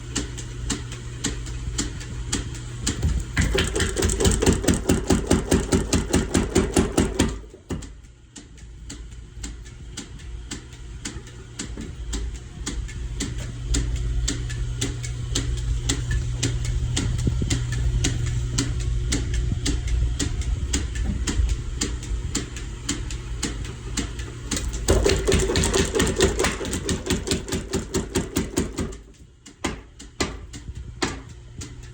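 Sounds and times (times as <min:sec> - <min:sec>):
drive humming: 0:00.0 - 0:31.9.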